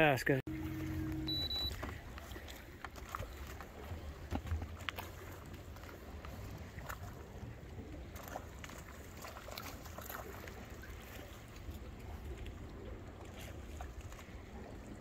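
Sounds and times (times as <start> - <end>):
water lapping against boat: 0.5 - 15.0
small splashes: 0.7 - 15.0.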